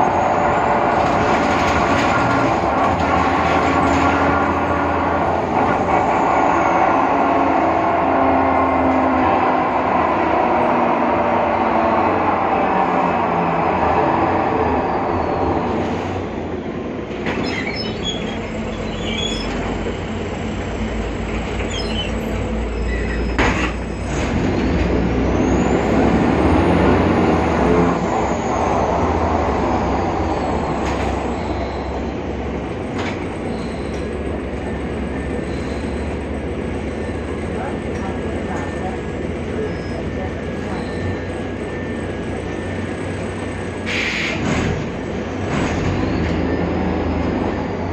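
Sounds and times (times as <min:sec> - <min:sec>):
bus drivetrain running: 0:00.0 - 0:47.9
road rumble: 0:00.0 - 0:47.9.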